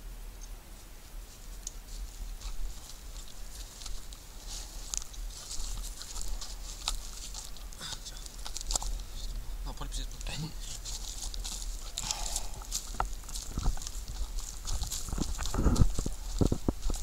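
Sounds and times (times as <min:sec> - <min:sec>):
rustling and crackling: 0:00.4 - 0:17.0.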